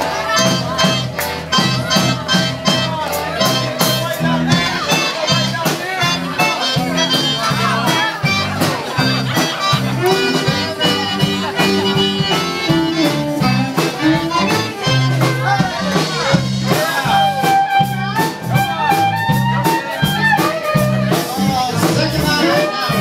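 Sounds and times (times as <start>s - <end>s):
accordion: 0.0s - 23.0s
crowd chatter: 0.0s - 23.0s
live band dance music: 0.0s - 23.0s.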